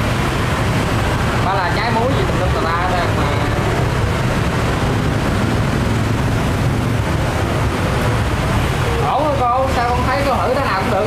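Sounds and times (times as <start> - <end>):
busy street traffic: 0.0 - 11.0.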